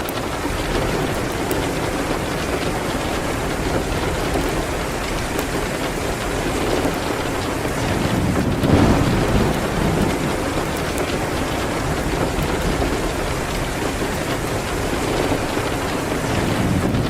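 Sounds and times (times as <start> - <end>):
faint wood fire crackles: 0.0 - 17.0
rain hitting a window: 0.0 - 17.0.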